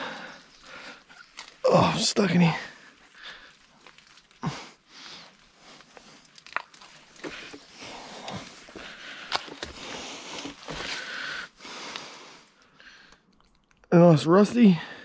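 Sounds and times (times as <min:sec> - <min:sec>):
twigs and leaves crunching: 0:00.0 - 0:12.7
twigs snapping: 0:00.2 - 0:02.0, 0:02.7 - 0:13.9.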